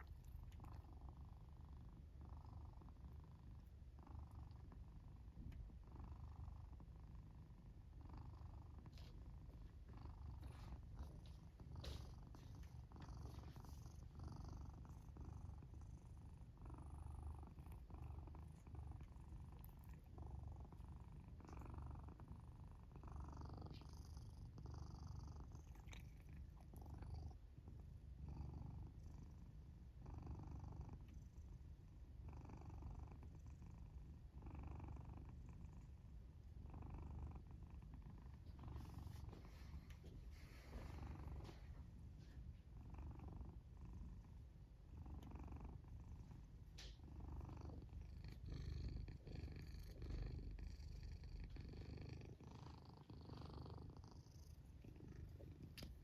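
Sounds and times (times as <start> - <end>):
cat purring: 0.0 - 56.0
cat snoring softly: 0.0 - 56.0.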